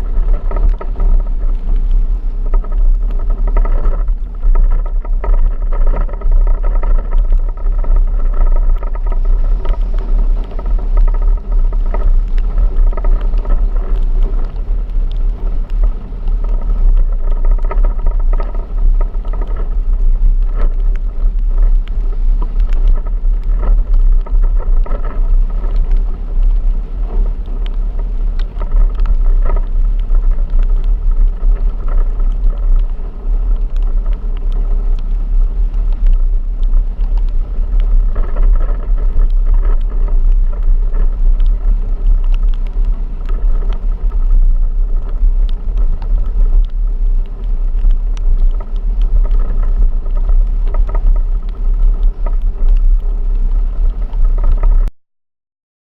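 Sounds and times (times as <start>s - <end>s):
vehicle driving with low rumble: 0.0s - 54.9s.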